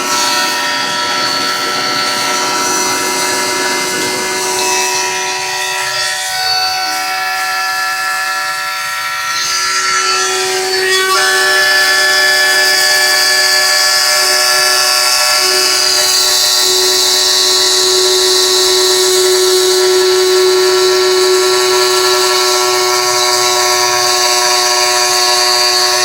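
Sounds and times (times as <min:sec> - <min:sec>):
router spindle whine: 0:00.0 - 0:26.0.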